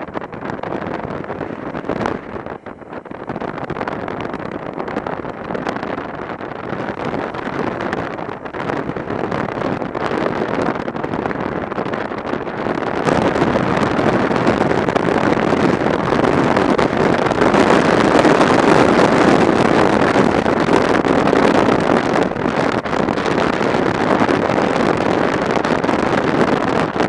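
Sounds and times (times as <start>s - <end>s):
motorcycle road and engine noise: 0.0s - 27.0s
wind rushing over microphone: 0.0s - 27.0s.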